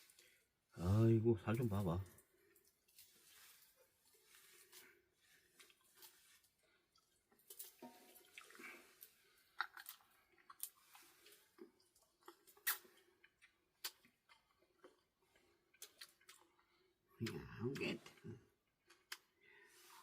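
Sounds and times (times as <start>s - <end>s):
chewing: 2.1s - 19.4s.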